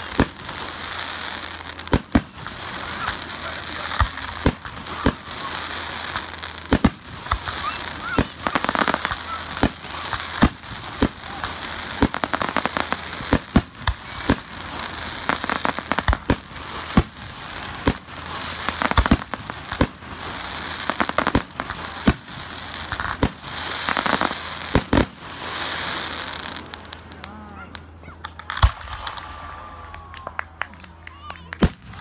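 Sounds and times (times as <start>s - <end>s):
crackling hiss: 0.0s - 29.7s
firecrackers banging and popping: 0.0s - 32.0s.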